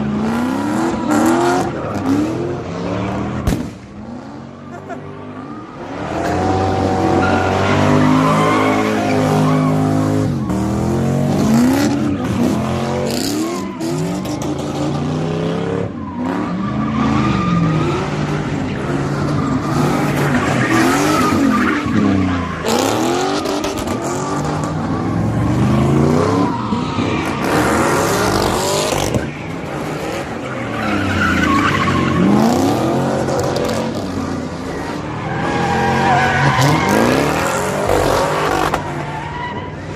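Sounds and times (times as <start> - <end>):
car engine revving: 0.0 - 39.9
tyres squealing and skidding: 0.0 - 39.9.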